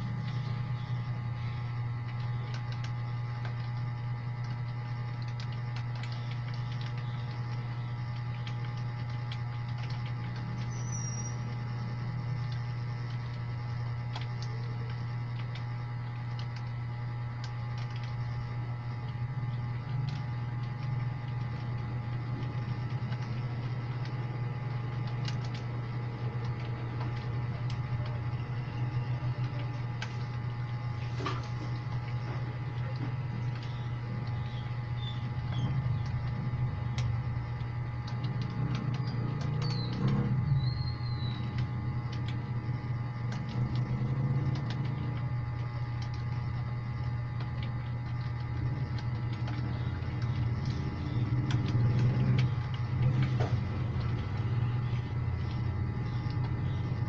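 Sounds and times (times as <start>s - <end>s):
keyboard typing clicks: 0.0s - 16.8s, 17.4s - 57.0s
loud steady low hum: 0.0s - 57.0s.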